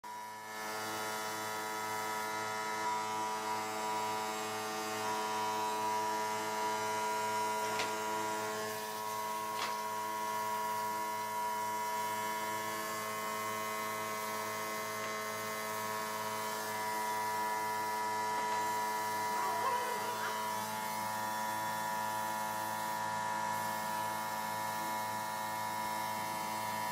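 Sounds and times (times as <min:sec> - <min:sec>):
power tool motor humming: 0:00.1 - 0:26.9.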